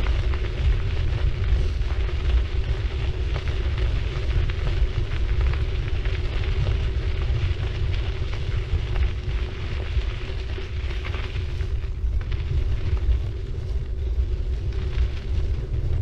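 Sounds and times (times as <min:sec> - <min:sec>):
bike tyres rolling on road: 0:00.0 - 0:16.0
steady hum: 0:00.0 - 0:16.0
wind rumble on microphone: 0:00.0 - 0:16.0.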